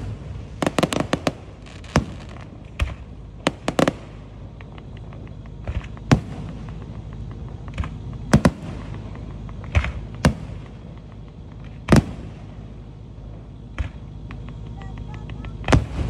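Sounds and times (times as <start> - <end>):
fireworks bangs: 0.0 - 16.0
steady low rumble: 0.0 - 16.0.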